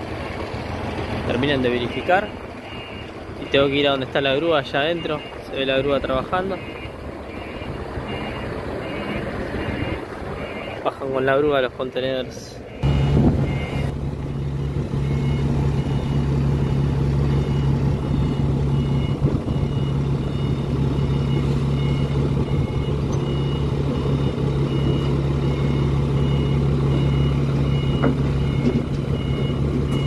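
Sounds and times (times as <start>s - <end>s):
diesel engine running: 0.0s - 30.0s
two-tone warning beeper: 1.8s - 4.0s, 4.8s - 5.5s, 6.4s - 10.8s, 12.7s - 30.0s.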